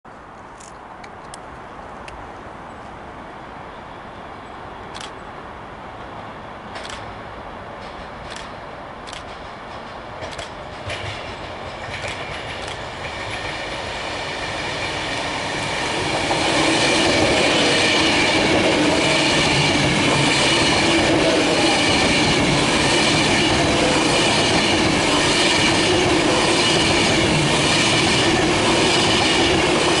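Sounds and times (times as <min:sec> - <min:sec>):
train passing at speed: 0:00.1 - 0:30.0.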